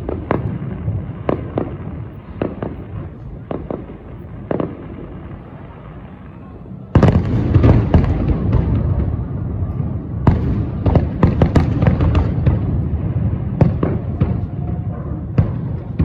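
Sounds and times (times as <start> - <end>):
fireworks bangs and crackle: 0.0 - 16.0
sharp firework reports: 0.0 - 16.0.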